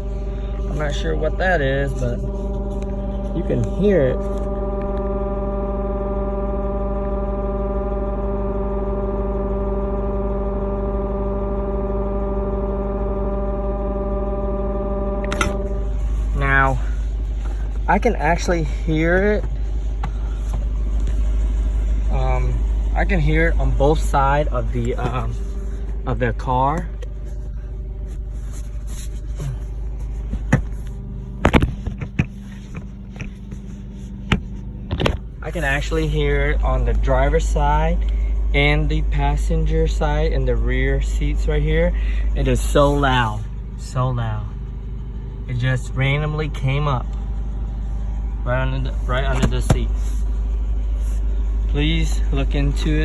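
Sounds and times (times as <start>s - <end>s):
loud buzzing hum: 0.0s - 53.0s.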